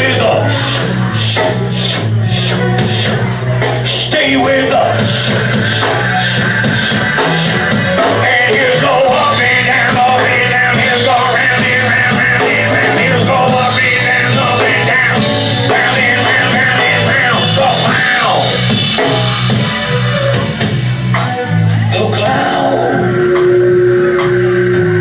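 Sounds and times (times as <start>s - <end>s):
instrumental rock band: 0.0s - 25.0s.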